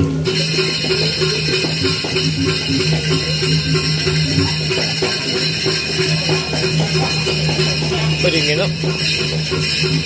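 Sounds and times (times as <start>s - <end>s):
gamelan playing: 0.0s - 10.0s.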